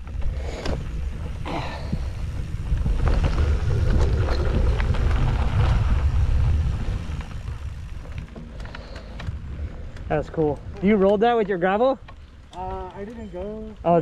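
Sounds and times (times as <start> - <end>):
wind buffeting microphone: 0.0 - 13.8
bike clicks and rattles: 0.0 - 14.0
bike tyres rolling on dirt: 0.0 - 14.0.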